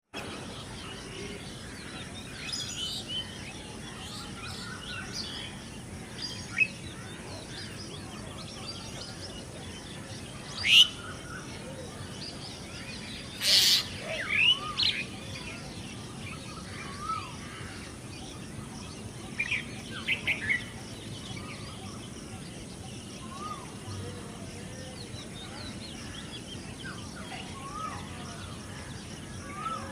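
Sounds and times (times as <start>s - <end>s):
birds chirping and calling: 0.2s - 29.9s
steady background hiss: 0.2s - 29.9s.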